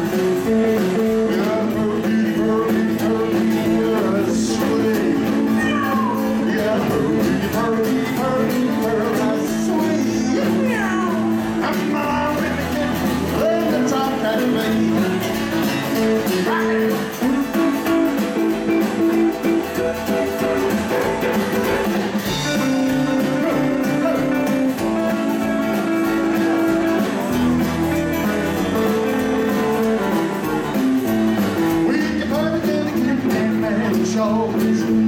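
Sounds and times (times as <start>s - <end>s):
rockabilly band playing: 0.0s - 35.0s.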